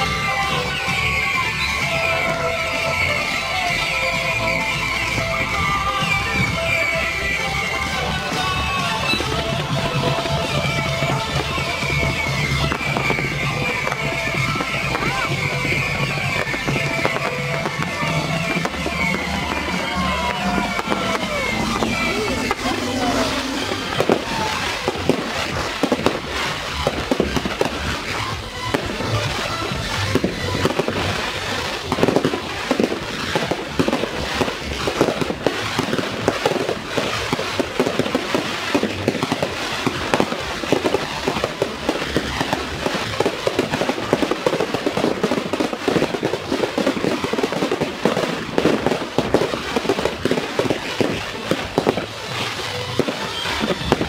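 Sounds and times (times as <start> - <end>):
fireworks crackling and popping: 0.0 - 54.0
music: 0.0 - 54.0.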